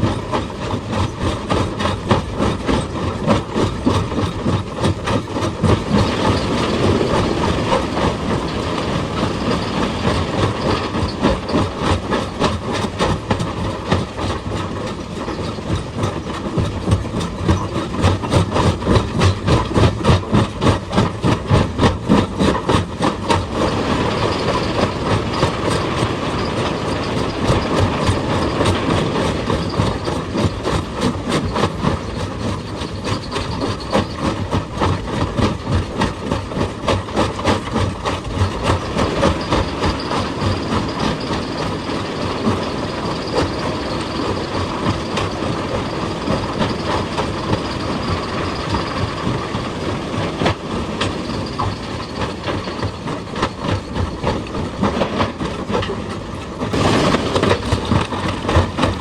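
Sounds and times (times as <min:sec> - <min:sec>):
excavator engine running: 0:00.0 - 0:59.0
hydraulic rock breaker hammering stone: 0:00.0 - 0:59.0.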